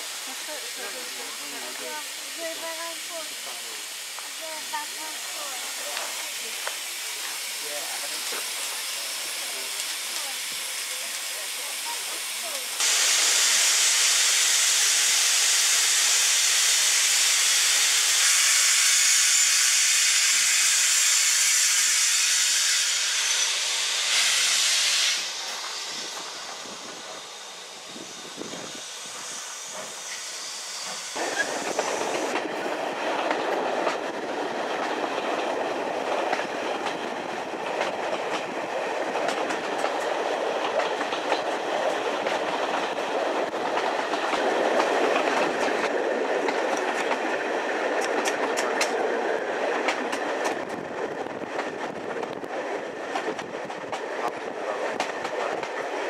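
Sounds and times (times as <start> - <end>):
steam hissing: 0.0 - 56.0
train rumble and wheel clatter: 0.0 - 56.0.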